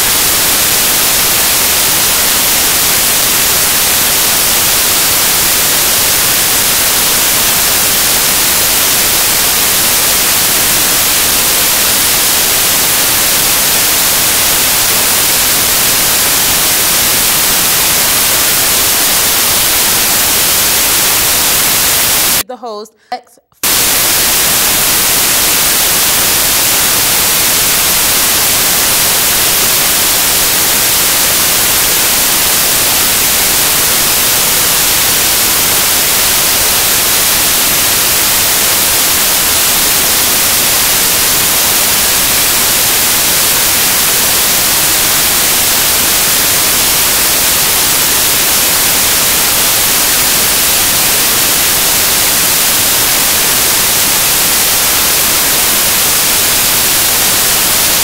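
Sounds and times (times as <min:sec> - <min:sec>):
white noise static hiss: 0:00.0 - 0:22.8, 0:23.6 - 0:58.0.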